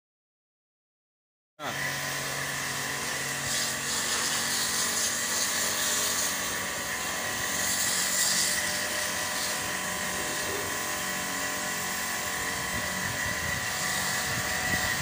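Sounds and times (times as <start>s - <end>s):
machine hum: 1.6s - 15.0s
pressure washer water jet hissing: 1.6s - 15.0s.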